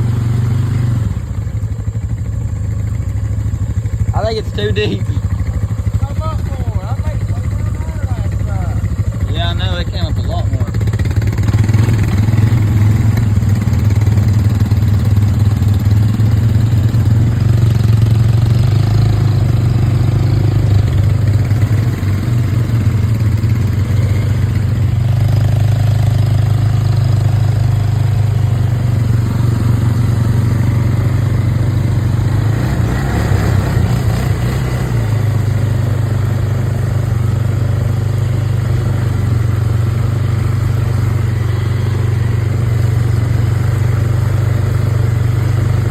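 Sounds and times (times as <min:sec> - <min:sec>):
off-road vehicle engine running: 0:00.0 - 0:45.9.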